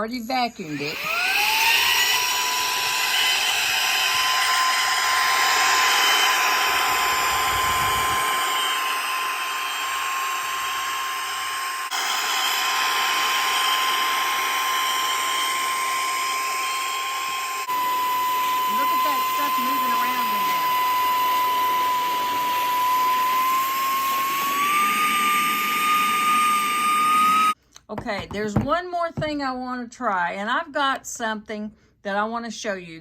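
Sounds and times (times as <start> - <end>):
handheld vacuum blowing air: 0.6 - 27.6.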